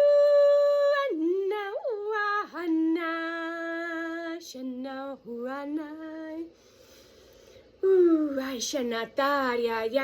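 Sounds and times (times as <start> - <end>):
woman singing long held notes: 0.0 - 6.6, 7.8 - 10.0.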